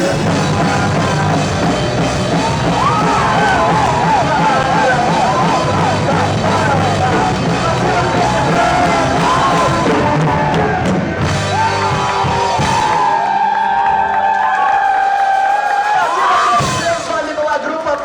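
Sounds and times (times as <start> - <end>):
rock band playing live: 0.0 - 17.5.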